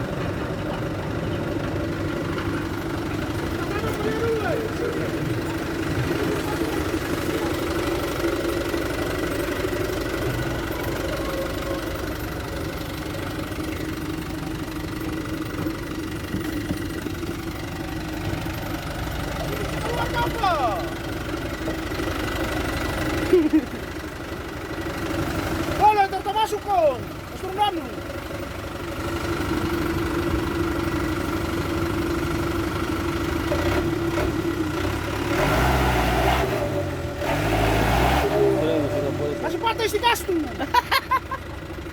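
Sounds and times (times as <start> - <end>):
truck diesel engine idling: 0.0 - 41.9.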